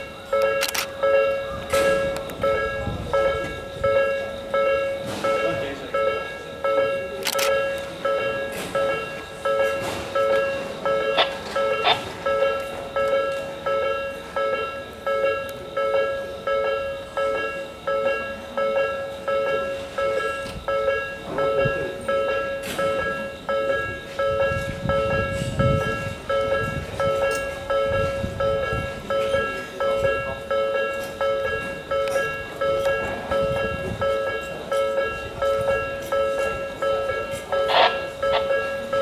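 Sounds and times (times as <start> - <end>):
level crossing two-tone alarm: 0.0 - 39.0
low train rumble: 0.0 - 39.0.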